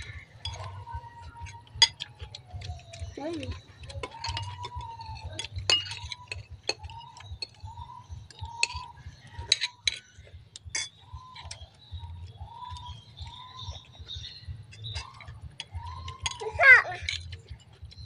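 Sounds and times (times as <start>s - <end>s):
spoons clicking on ceramic bowls: 0.0s - 13.8s, 14.7s - 18.0s.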